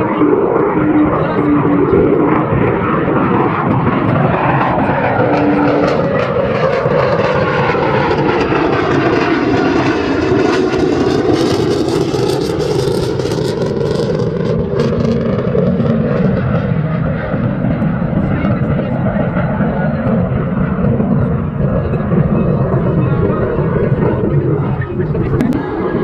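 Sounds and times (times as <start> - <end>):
jet engine roaring past: 0.0 - 26.0.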